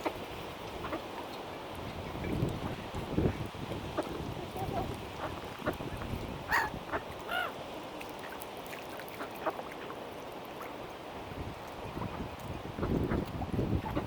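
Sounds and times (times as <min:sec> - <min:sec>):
waterbirds calling: 0:00.0 - 0:14.0.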